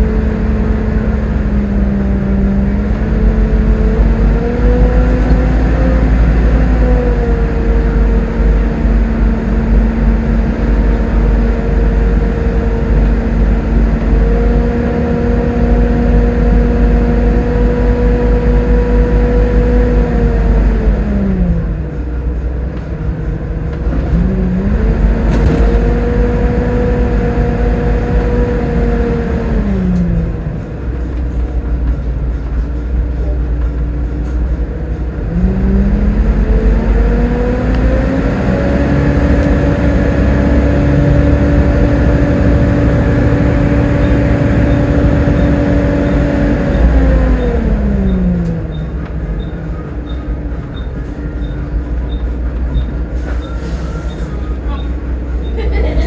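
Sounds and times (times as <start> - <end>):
bus diesel engine rumble: 0.0 - 56.0
drivetrain whine: 0.0 - 56.0.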